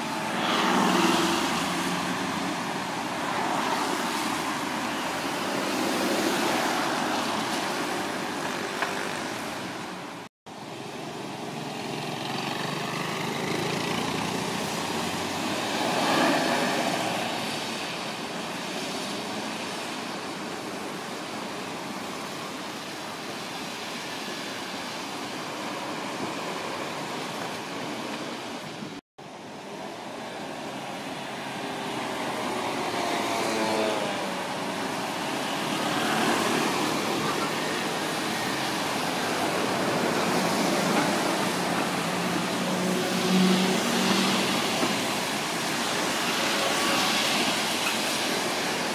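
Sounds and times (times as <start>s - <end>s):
traffic on wet road: 0.0s - 48.9s.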